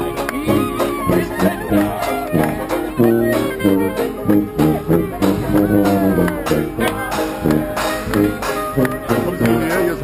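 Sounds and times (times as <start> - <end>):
bass drum and cymbal beat: 0.0 - 10.0
brass band playing: 0.0 - 10.0
tuba low notes: 0.0 - 10.0.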